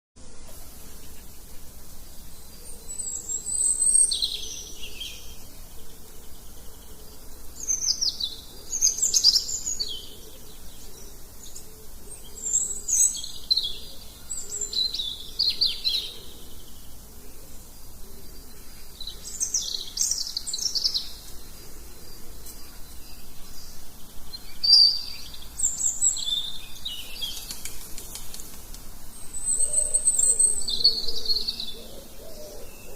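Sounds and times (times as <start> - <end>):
birds chirping and singing: 0.8 - 32.9.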